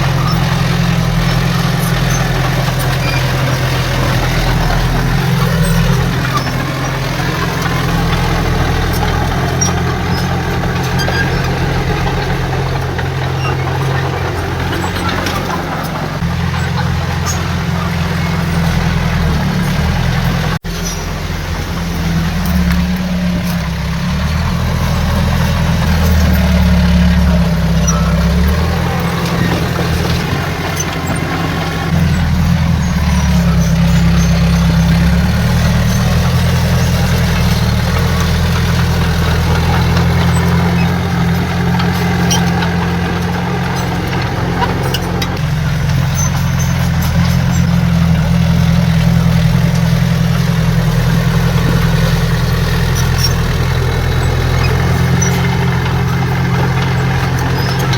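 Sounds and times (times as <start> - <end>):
heavy diesel engine droning: 0.0 - 57.9.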